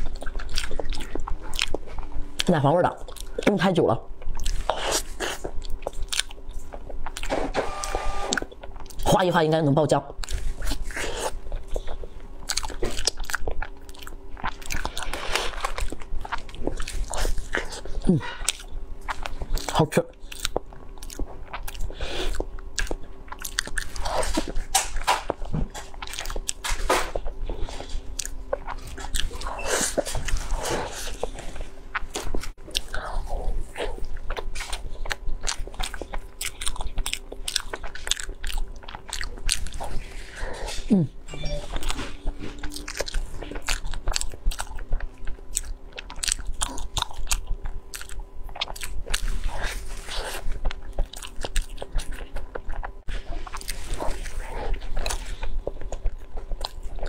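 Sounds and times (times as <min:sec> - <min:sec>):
chewing soft cake: 0:00.0 - 0:57.0.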